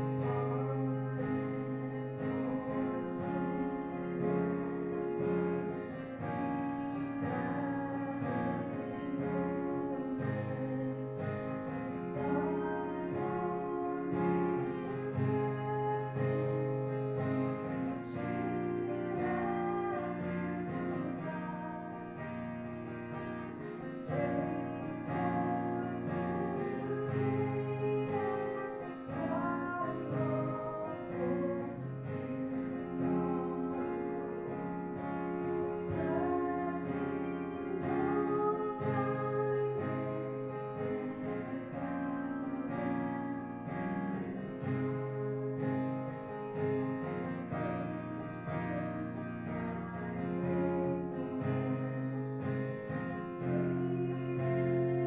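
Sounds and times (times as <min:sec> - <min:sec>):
person singing: 0:00.0 - 0:45.8, 0:47.0 - 0:55.0
strummed acoustic guitar: 0:00.0 - 0:55.0.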